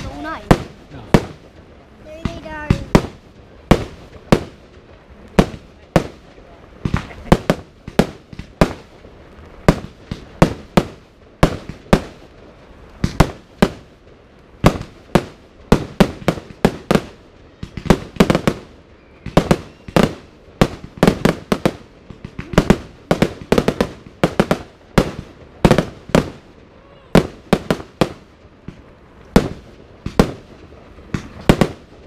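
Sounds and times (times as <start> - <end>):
fireworks bursting with sharp bangs: 0.0 - 32.0.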